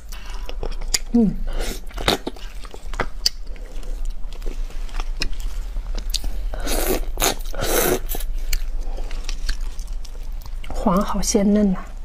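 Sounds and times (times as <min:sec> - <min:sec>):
chewing prawn shell crunching: 0:00.0 - 0:01.2, 0:01.8 - 0:11.1.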